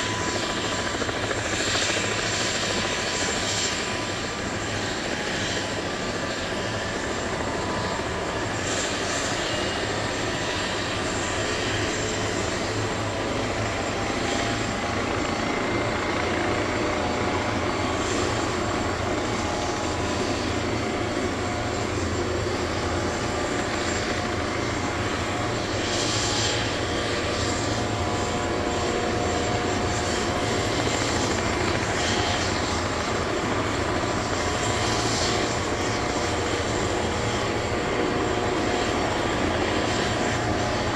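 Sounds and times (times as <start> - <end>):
helicopter turbine whine and rotor: 0.0 - 40.9.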